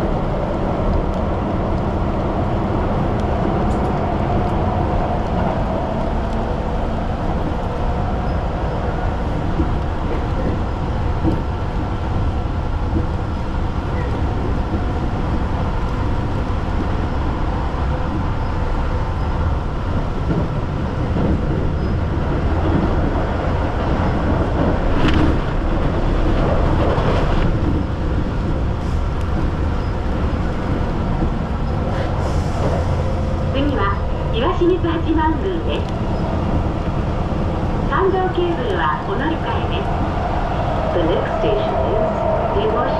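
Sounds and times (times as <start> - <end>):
train carriage rattling: 0.0 - 42.9
train wheels rumbling on rails: 0.0 - 42.9.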